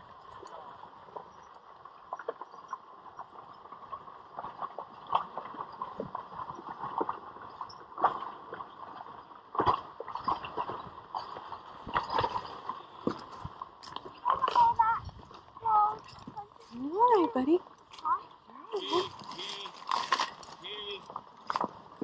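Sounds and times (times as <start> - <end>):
hooves and wheels splashing in water: 0.0 - 22.0
water rushing: 0.0 - 22.0.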